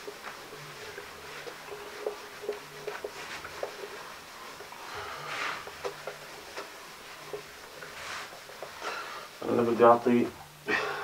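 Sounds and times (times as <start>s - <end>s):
whiteboard being wiped: 0.1s - 9.9s.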